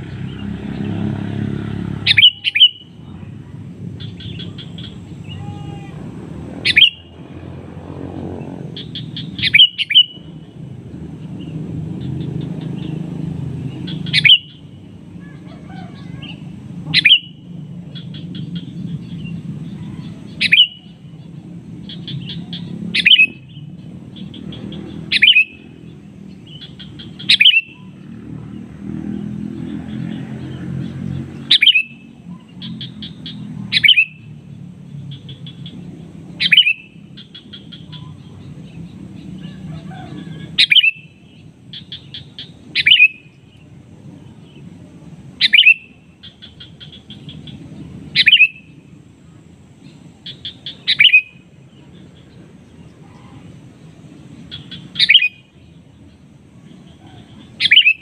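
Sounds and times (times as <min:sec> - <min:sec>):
bird calling: 0:00.0 - 0:58.0.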